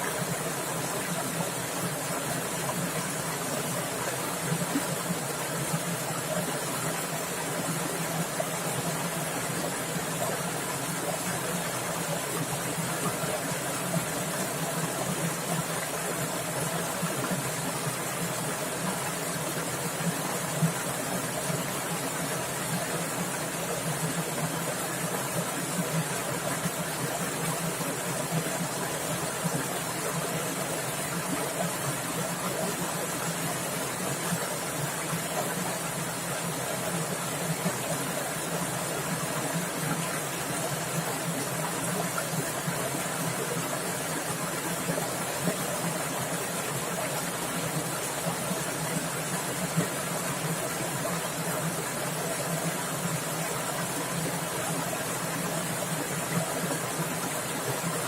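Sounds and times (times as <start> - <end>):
stream splashing over rocks: 0.0 - 58.0.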